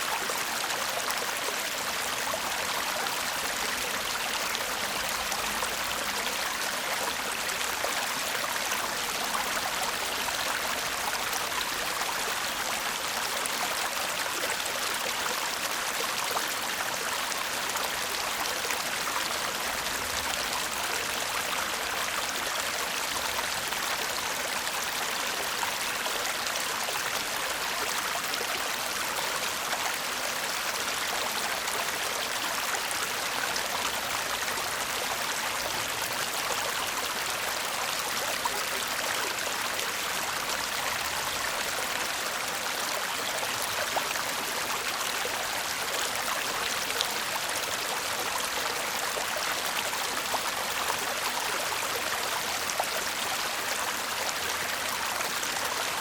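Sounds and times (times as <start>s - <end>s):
small stream babbling: 0.0s - 56.0s.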